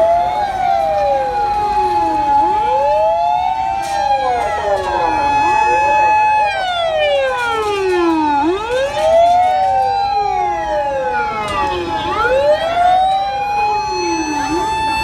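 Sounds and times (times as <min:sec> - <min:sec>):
fire engine sirens wailing: 0:00.0 - 0:15.0.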